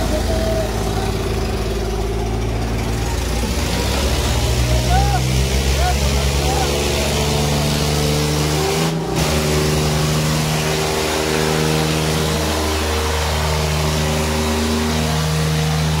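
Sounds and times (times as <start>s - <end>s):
tractor diesel engines droning: 0.0s - 16.0s.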